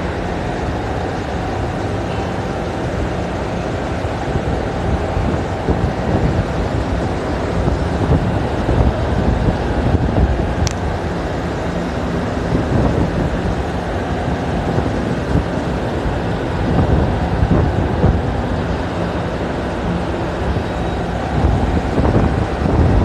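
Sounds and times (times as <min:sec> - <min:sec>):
conveyor machinery rumble: 0:00.0 - 0:23.0
wind on microphone: 0:03.3 - 0:23.0.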